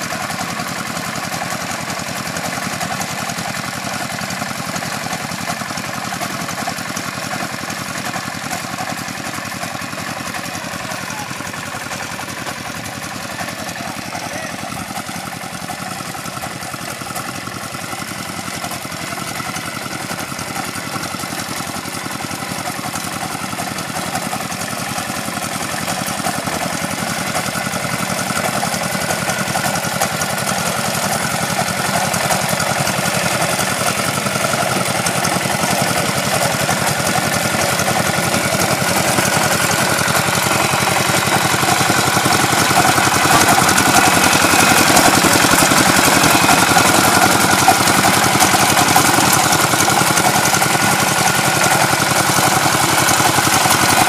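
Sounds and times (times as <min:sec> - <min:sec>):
road roller diesel engine running: 0:00.0 - 0:54.0.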